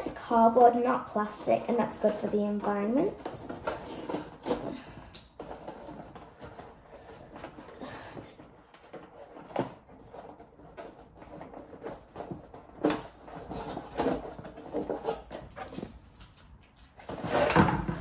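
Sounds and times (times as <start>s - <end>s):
cardboard scraping and rustling: 0.0s - 18.0s.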